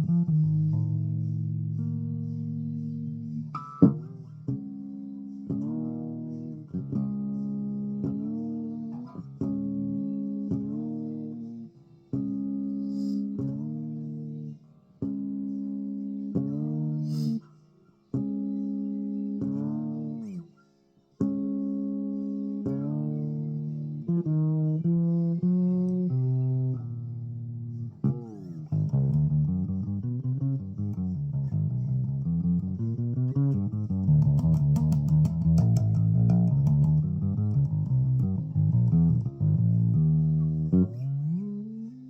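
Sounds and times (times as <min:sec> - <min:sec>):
bass guitar playing: 0:00.0 - 0:17.5, 0:18.1 - 0:20.6, 0:21.2 - 0:42.0.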